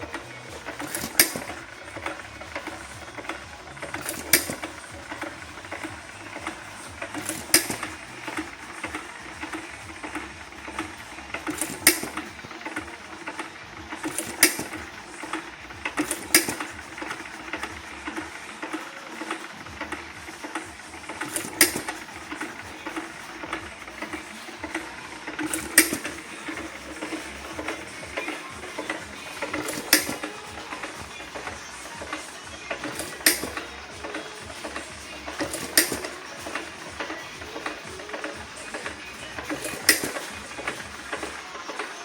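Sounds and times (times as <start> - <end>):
engine mechanical clatter: 0.0 - 42.0.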